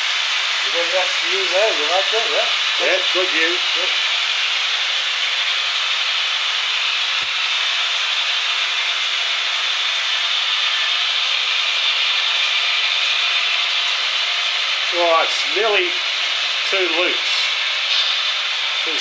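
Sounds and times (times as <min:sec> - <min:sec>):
model train wheels rolling on rails: 0:00.0 - 0:19.0.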